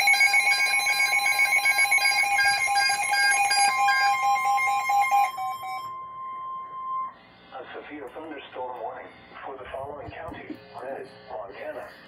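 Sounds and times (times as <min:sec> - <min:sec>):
rapid electronic alarm beeping: 0:00.0 - 0:12.0
steady high alarm tone: 0:00.0 - 0:12.0.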